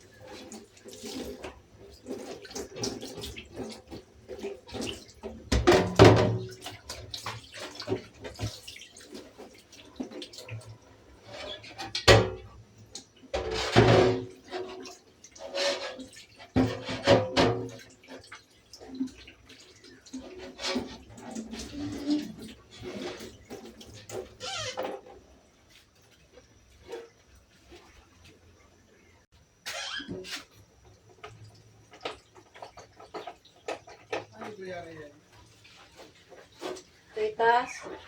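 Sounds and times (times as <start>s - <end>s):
water running and splashing: 0.0s - 29.1s, 29.7s - 38.0s.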